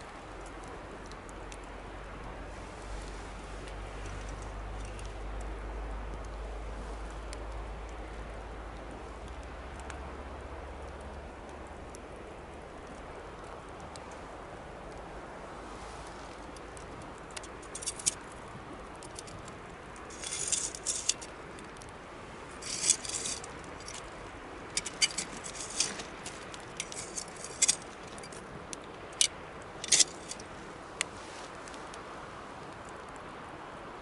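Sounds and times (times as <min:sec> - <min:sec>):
bonfire crackling and popping: 0:00.0 - 0:33.8
low rush of burning: 0:00.2 - 0:33.6.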